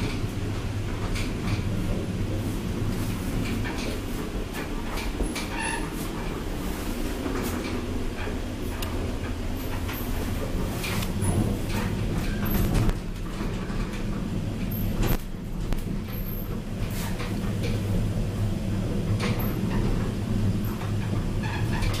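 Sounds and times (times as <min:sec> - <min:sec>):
elevator low hum: 0:00.0 - 0:22.0.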